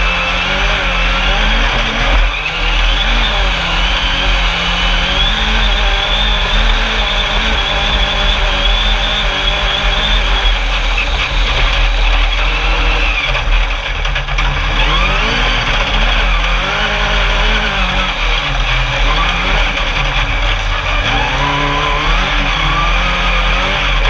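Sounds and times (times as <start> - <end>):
buggy engine running hard: 0.0 - 24.0.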